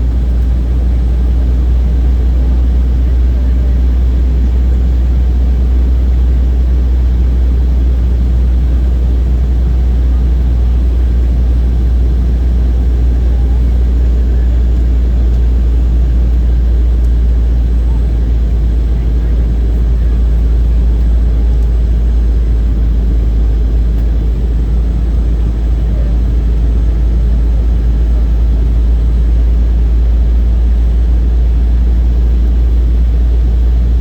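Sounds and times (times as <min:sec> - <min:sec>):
airliner cabin engine drone: 0:00.0 - 0:34.0.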